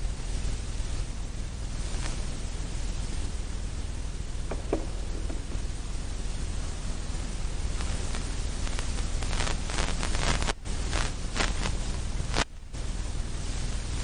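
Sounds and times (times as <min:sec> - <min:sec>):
static-like hiss: 0:00.0 - 0:14.0.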